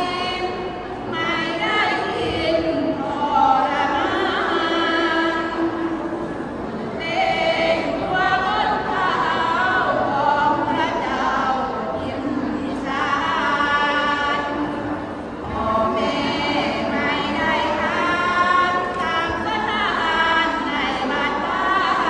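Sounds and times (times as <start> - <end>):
women chanting in unison: 0.0 - 22.0.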